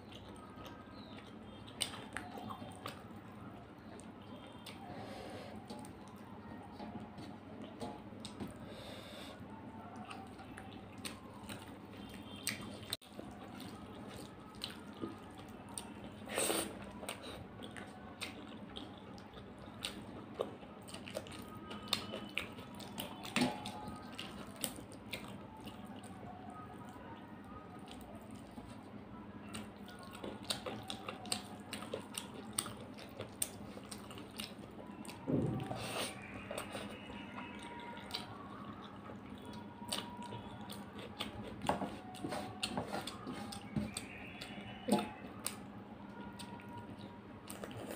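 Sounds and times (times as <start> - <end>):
fingers mixing wet food: 0.0 - 8.6, 9.7 - 47.9
chewing and mouth sounds: 0.0 - 47.9
wet eating sound: 0.0 - 47.9.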